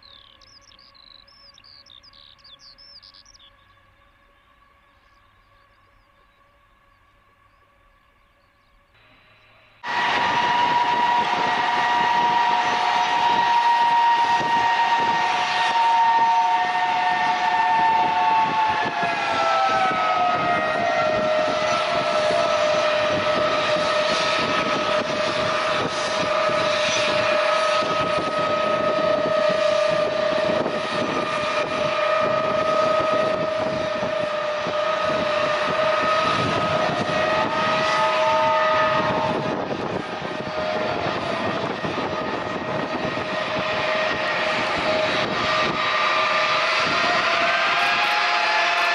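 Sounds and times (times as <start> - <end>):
jet engines whining and roaring: 8.9 - 48.9.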